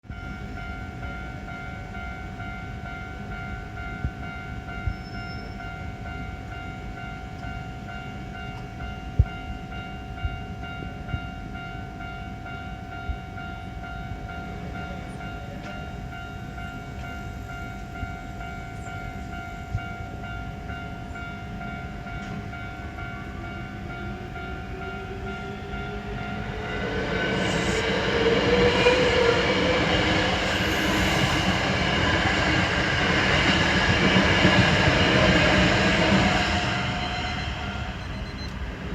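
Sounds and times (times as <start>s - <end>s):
train approaching: 0.0s - 38.9s
level-crossing alarm ringing: 0.1s - 38.9s.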